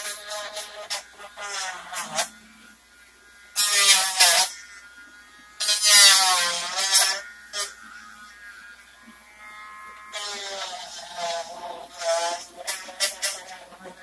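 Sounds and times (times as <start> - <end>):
small electric motor whirring: 0.0 - 14.0.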